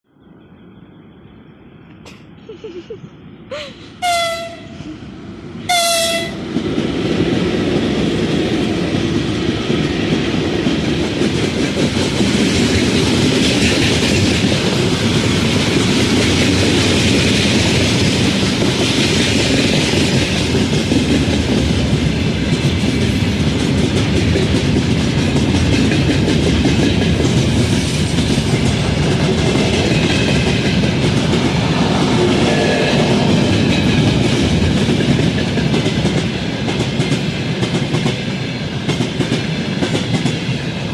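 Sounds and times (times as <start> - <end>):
freight train wheels clattering: 6.4 - 40.9.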